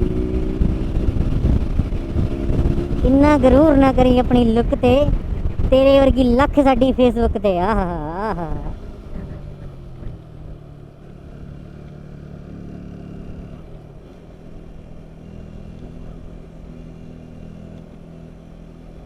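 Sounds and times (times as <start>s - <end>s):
motorcycle engine running: 0.0s - 19.0s
road and traffic noise: 0.0s - 19.0s.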